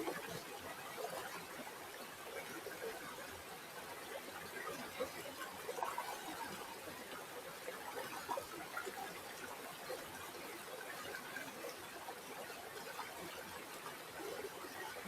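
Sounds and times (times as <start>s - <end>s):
river water trickling: 0.0s - 15.0s.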